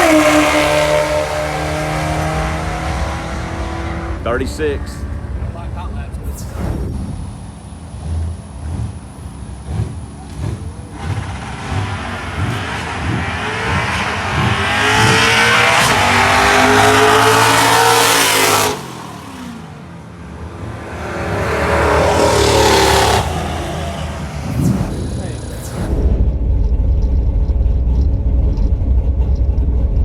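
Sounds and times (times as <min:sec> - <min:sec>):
drag car engine at full throttle: 0:00.0 - 0:30.0.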